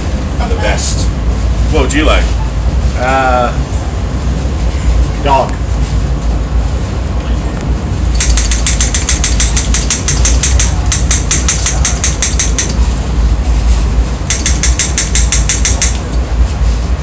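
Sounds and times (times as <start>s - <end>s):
low train rumble: 0.0s - 17.0s.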